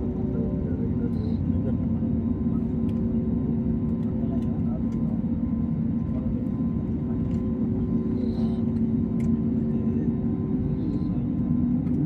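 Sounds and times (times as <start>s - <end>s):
constant tonal hum: 0.0s - 12.0s
low rumble of engines and airflow: 0.0s - 12.0s.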